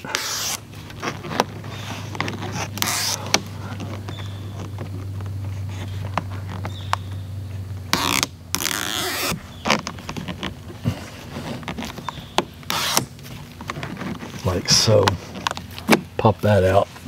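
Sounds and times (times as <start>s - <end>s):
backing liner ripping off tape: 0.0s - 7.0s, 7.9s - 16.2s
low steady hum: 0.0s - 17.0s.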